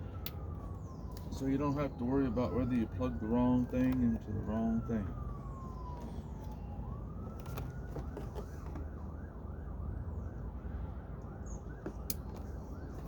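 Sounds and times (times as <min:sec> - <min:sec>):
emergency vehicle siren: 0:00.0 - 0:13.0.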